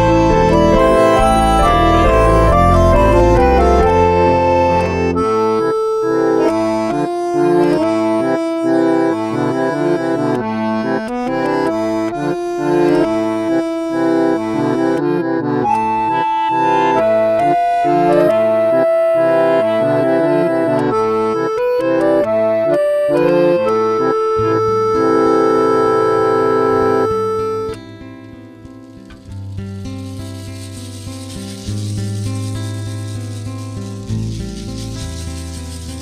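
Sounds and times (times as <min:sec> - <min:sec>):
accordion music: 0:00.0 - 0:36.0.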